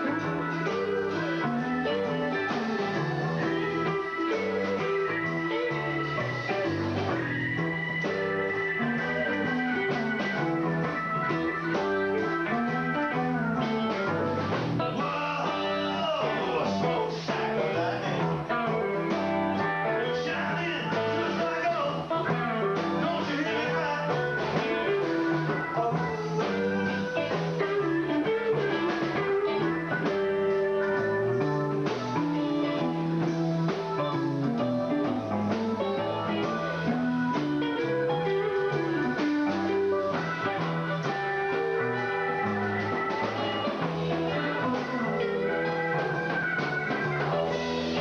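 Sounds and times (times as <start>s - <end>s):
live rock band playing blues: 0.0s - 48.0s.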